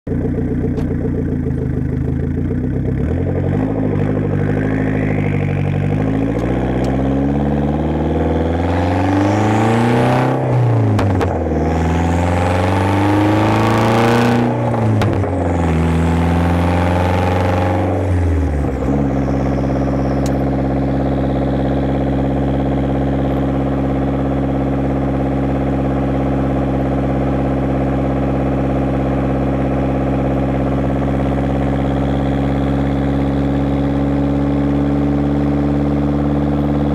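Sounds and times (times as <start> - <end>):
car engine revving: 0.1 - 36.9.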